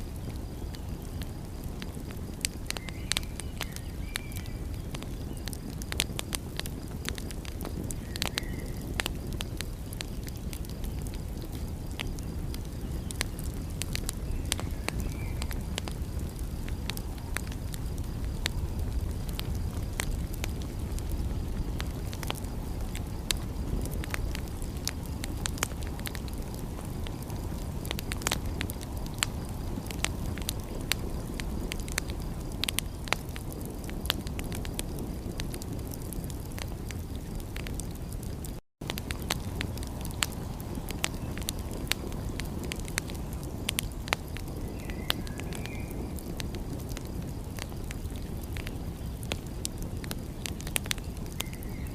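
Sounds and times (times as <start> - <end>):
fire rumble: 0.0 - 51.9
wood fire pops and snaps: 0.0 - 51.9.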